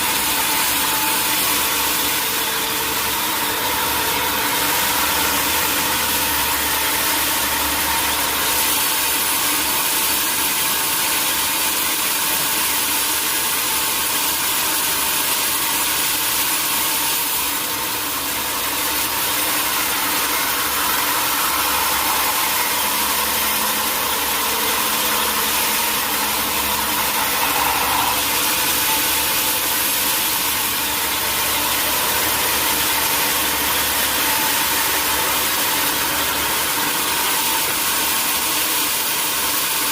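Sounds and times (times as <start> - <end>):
engine-driven saw hissing: 0.0 - 39.9.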